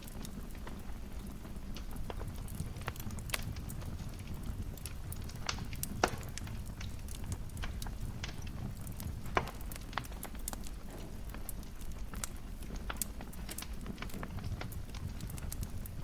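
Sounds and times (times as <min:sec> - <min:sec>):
loud fire pops: 0:00.0 - 0:16.0
wood fire crackling: 0:00.0 - 0:16.0.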